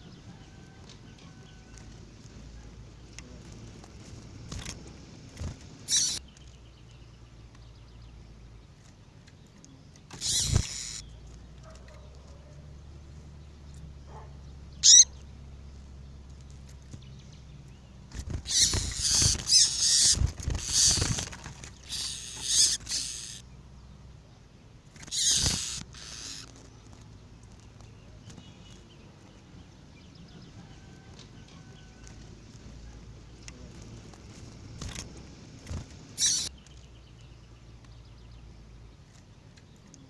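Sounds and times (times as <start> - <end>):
bird chirping and twittering: 0.0 - 40.0.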